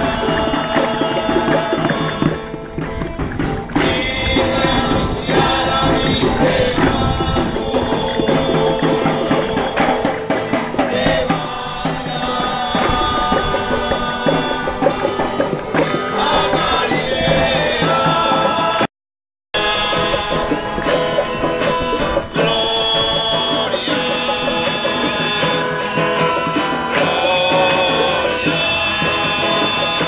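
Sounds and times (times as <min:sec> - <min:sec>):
hand drum: 0:00.0 - 0:18.9, 0:19.6 - 0:30.0
strummed guitar: 0:00.0 - 0:18.9, 0:19.6 - 0:30.0
voices singing: 0:00.0 - 0:18.9, 0:19.6 - 0:30.0.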